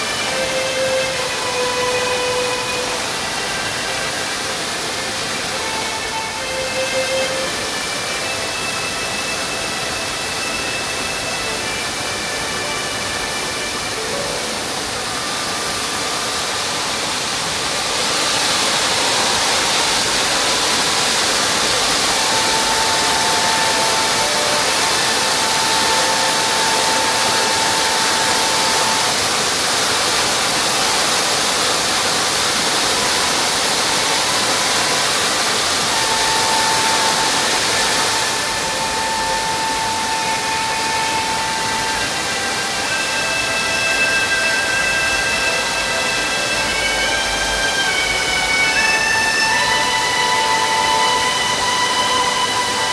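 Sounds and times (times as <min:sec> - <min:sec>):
waterfall rushing into pool: 0:00.0 - 0:52.9.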